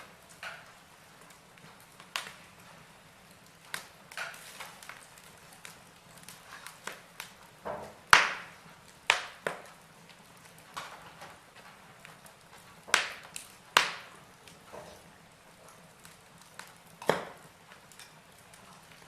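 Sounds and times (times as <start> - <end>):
faint fire hiss: 0.0 - 19.0
logs crackling in fireplace: 0.0 - 19.0.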